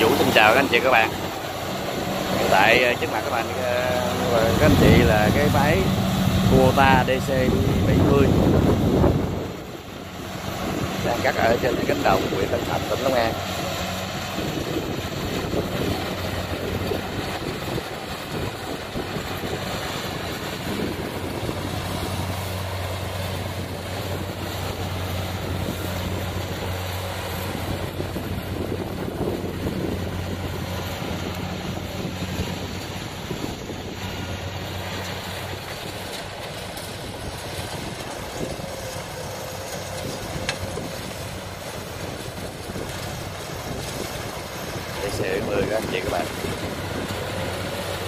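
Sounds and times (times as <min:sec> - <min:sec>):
combine harvester diesel engine: 0:00.0 - 0:48.0.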